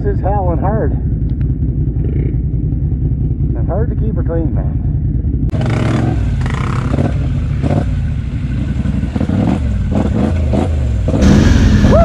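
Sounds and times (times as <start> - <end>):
atv engine revving: 0.3 - 4.2, 5.0 - 12.0.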